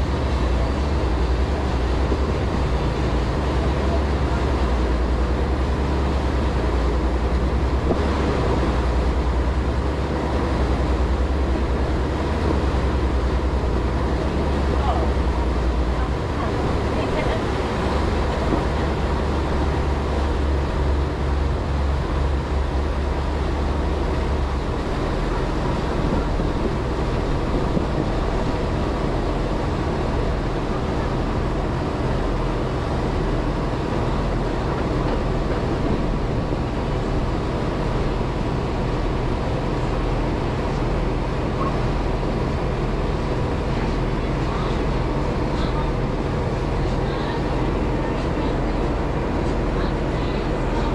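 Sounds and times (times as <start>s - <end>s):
boat engine running: 0.0s - 50.9s
strong low hum: 0.0s - 50.9s
wind and water rushing: 0.0s - 50.9s.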